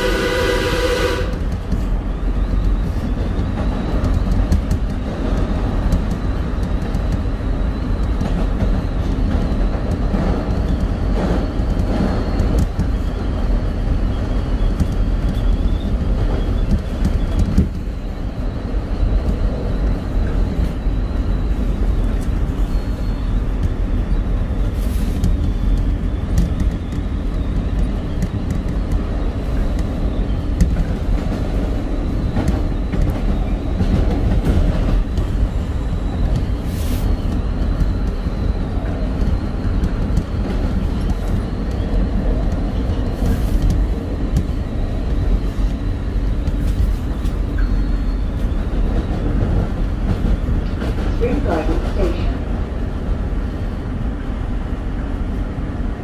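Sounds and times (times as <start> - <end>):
sharp clicks of train track: 0.0 - 56.0
train wheels rumbling on rails: 0.0 - 56.0.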